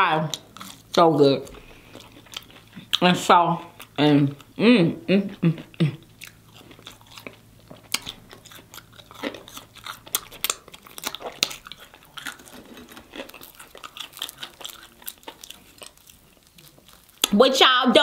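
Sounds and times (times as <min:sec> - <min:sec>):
crunchy chewing: 0:00.2 - 0:04.6, 0:05.3 - 0:17.4.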